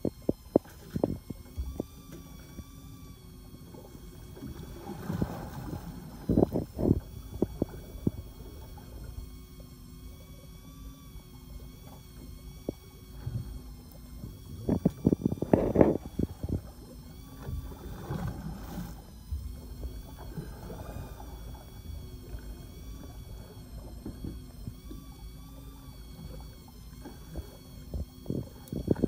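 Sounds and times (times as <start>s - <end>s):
boat engine low rumble: 0.0s - 29.0s
water lapping against hull: 0.0s - 29.0s.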